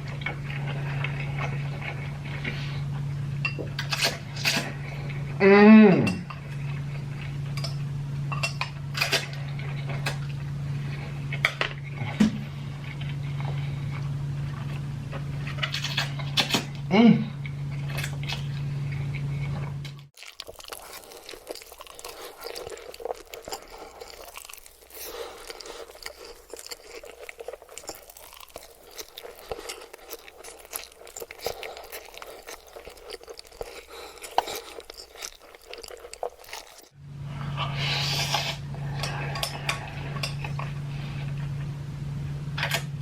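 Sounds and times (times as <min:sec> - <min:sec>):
chewing noodles: 0:00.0 - 0:05.4, 0:06.2 - 0:37.0
steady low hum: 0:00.0 - 0:43.0.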